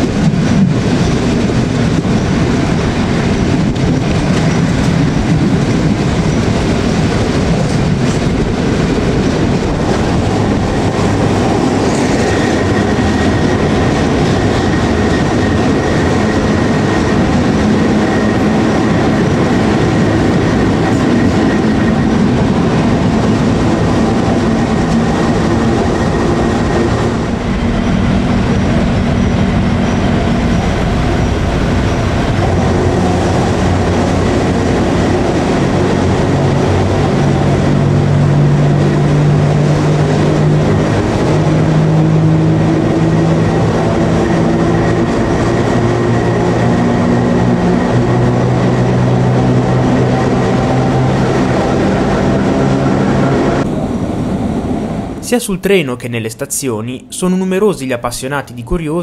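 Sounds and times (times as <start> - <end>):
electric locomotive running rumble: 0.0 - 55.3.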